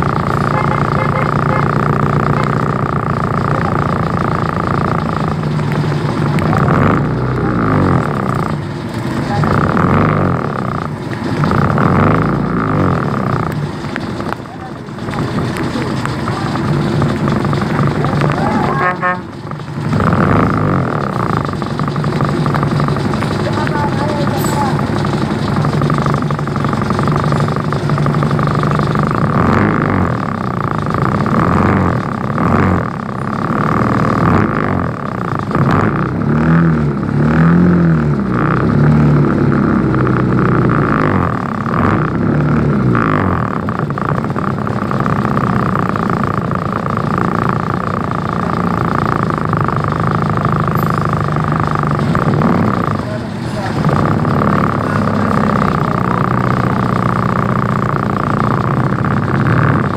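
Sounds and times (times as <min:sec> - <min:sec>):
engine revving: 0:00.0 - 0:59.9
motorcycles: 0:00.0 - 0:59.9
truck engine: 0:00.0 - 0:59.9
vehicle engines idling in traffic: 0:00.0 - 0:59.9.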